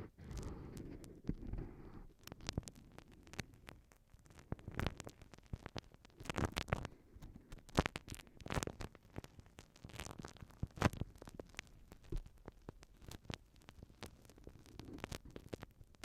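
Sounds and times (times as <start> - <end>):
glue stick crackling on microphone: 0.0 - 16.0.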